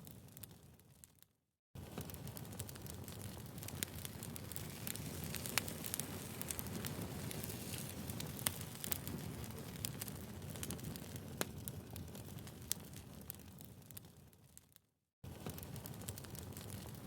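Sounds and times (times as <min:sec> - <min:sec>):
wood fire crackling: 0:01.8 - 0:17.0.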